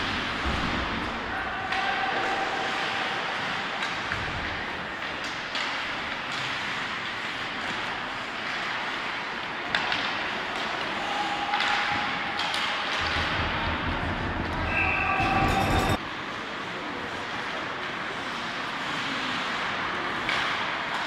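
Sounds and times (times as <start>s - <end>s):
skates and sticks on ice: 0.0s - 21.0s.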